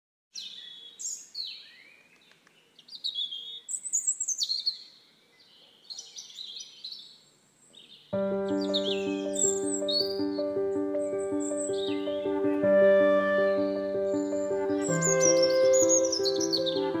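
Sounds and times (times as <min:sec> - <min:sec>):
forest birds chirping: 0:00.3 - 0:17.0.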